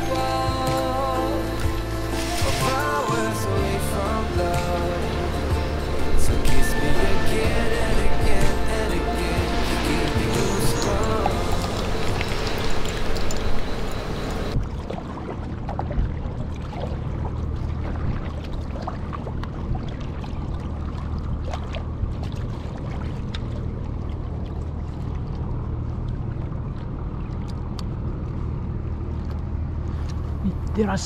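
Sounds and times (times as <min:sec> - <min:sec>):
paddle splashes: 0:00.0 - 0:13.9, 0:14.5 - 0:30.7
low rumble: 0:00.0 - 0:31.0
water lapping at hull: 0:00.0 - 0:31.0.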